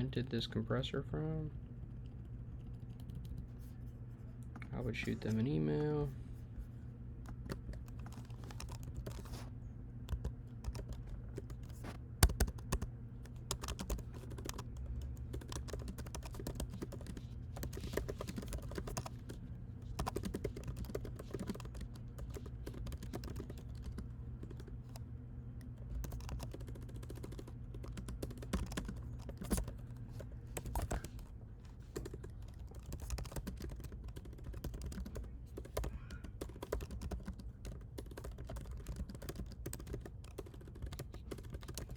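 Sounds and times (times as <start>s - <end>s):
steady low hum: 0.0s - 41.9s
computer keyboard typing: 1.6s - 3.9s, 7.2s - 41.9s.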